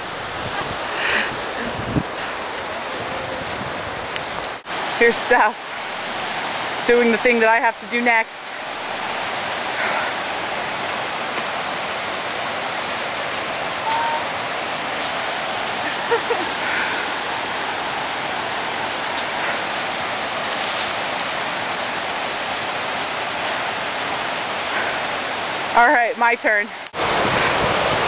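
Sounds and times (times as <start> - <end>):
rushing river: 0.0 - 28.0.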